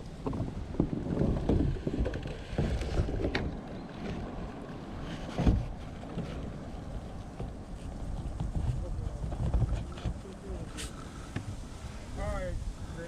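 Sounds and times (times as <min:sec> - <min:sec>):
hollow knocks of kayaks: 0:00.0 - 0:11.6
wind rumbling on microphone: 0:00.0 - 0:13.0.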